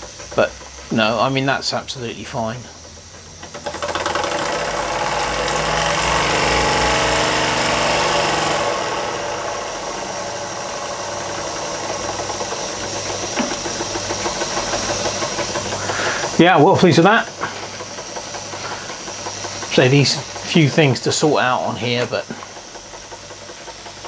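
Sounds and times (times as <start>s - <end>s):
model steam engine running: 0.0s - 24.0s
steam hissing: 0.0s - 24.0s.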